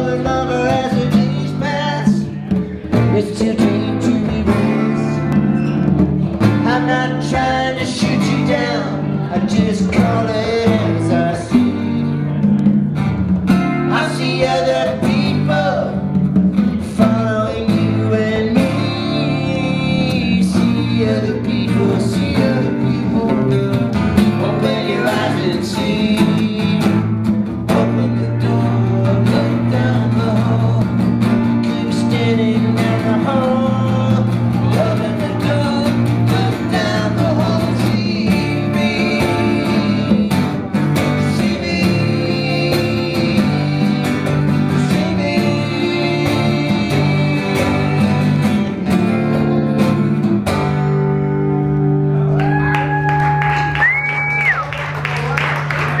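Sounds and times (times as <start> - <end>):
man singing: 0.0 - 5.6, 6.4 - 12.7, 13.7 - 50.3
congas: 0.0 - 50.6
strummed acoustic guitars: 0.0 - 56.0.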